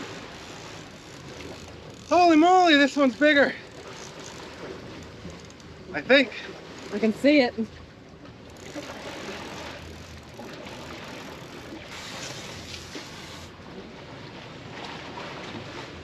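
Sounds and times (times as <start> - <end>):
sea water rushing around boat: 0.0 - 16.0.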